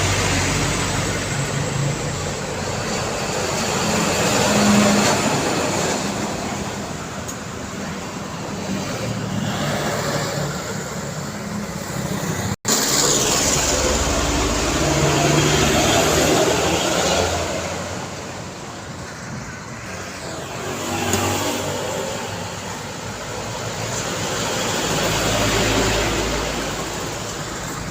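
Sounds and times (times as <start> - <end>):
vehicles passing: 0.0 - 27.9.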